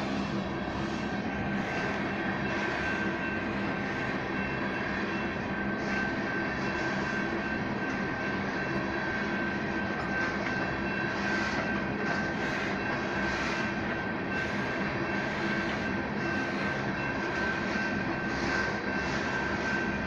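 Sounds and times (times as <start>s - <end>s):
high-pitched ring: 0.0s - 20.0s
train wheels rumbling on rails: 0.0s - 20.0s.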